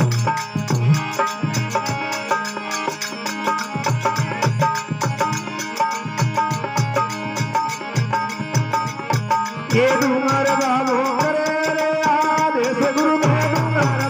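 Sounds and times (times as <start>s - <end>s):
harmonium melody: 0.0s - 14.0s.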